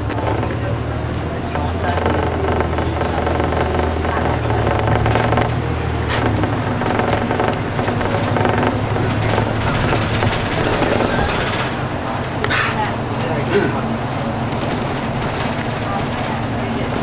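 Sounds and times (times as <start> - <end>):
bus engine running: 0.0 - 17.0.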